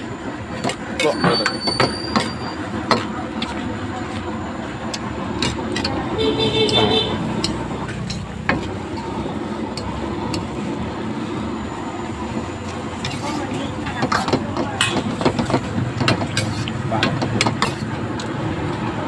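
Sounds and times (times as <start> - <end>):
rushing cooking noise: 0.0 - 19.0.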